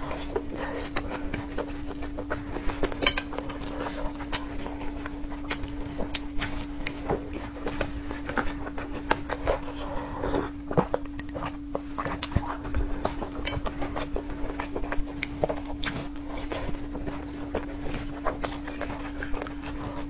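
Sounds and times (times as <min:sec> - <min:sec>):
low hum: 0:00.0 - 0:20.0
person chewing food: 0:00.0 - 0:20.0.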